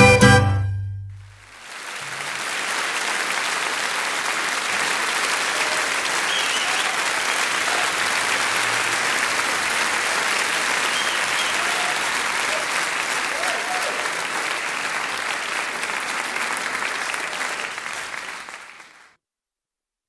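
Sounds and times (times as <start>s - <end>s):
large audience applauding: 1.4s - 19.2s.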